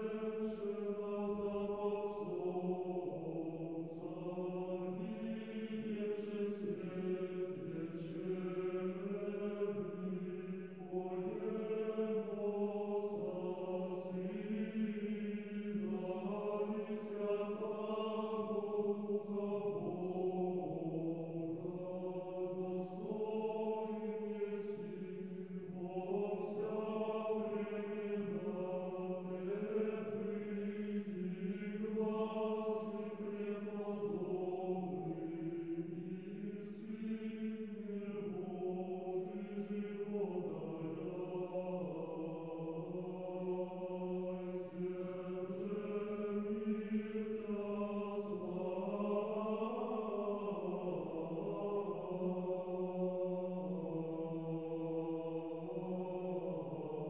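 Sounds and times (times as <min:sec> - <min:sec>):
choir chanting: 0:00.0 - 0:57.0.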